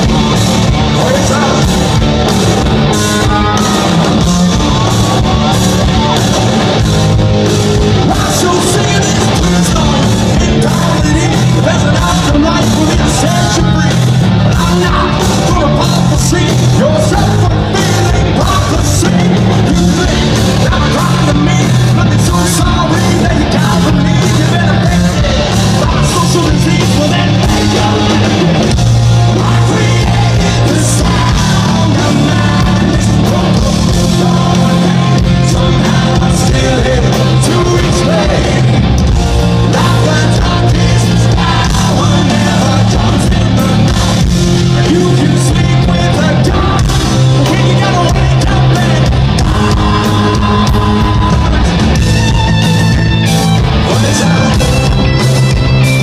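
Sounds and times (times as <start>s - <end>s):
bass: 0.0s - 56.0s
distorted electric guitars: 0.0s - 56.0s
drums: 0.0s - 56.0s
lead singer: 0.0s - 56.0s.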